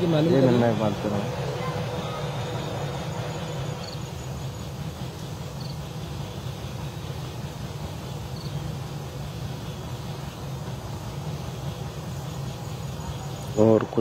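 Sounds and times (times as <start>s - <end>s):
even hiss: 0.0s - 14.0s.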